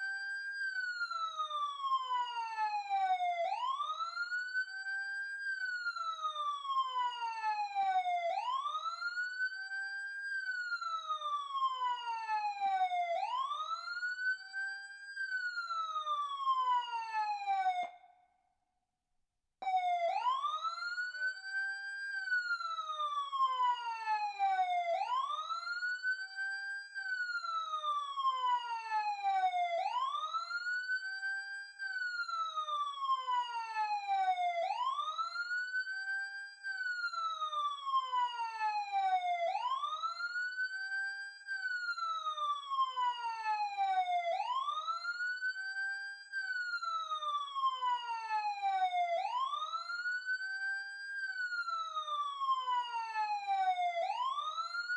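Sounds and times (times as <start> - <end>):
emergency siren wailing: 0.0 - 18.0, 19.6 - 54.9.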